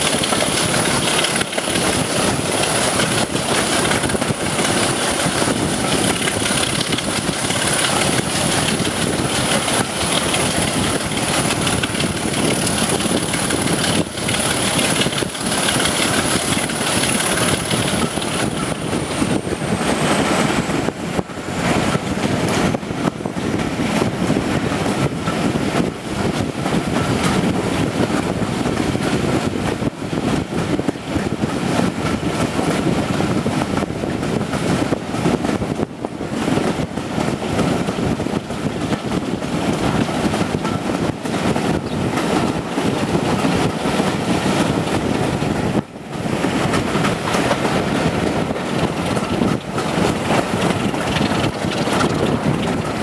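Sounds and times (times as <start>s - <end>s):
diesel locomotive engine running: 0.0s - 53.0s
wind rushing past microphone: 0.0s - 53.0s.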